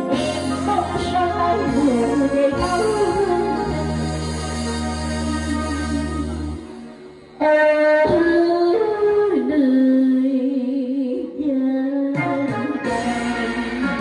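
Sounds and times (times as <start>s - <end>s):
backing music: 0.0s - 9.4s, 12.1s - 14.0s
woman singing with vibrato: 0.0s - 14.0s.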